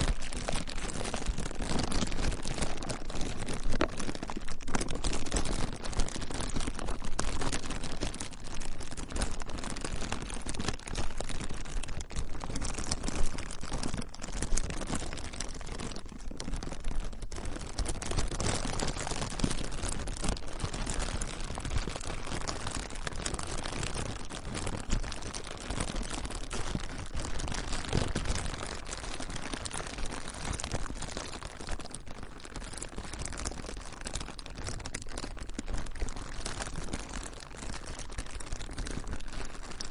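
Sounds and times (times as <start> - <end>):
plastic crinkling: 0.0 - 39.9.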